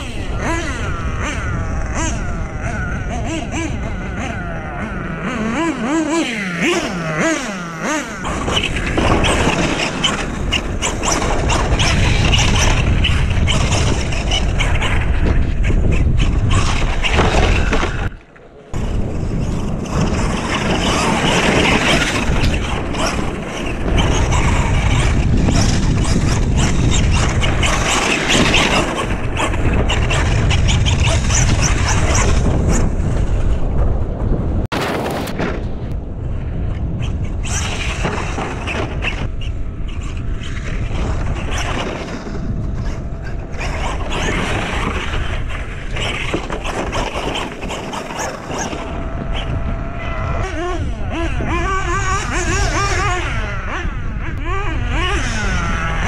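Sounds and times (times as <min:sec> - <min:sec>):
small engine revving: 0:00.0 - 0:33.4, 0:37.0 - 0:56.0.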